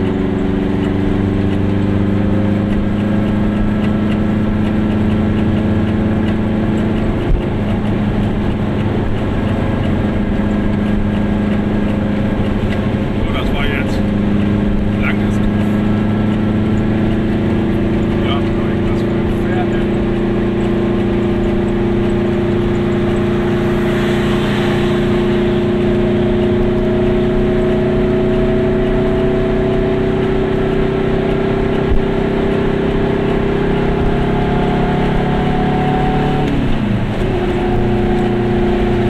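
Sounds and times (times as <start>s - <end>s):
two-stroke car engine running: 0.0s - 39.0s.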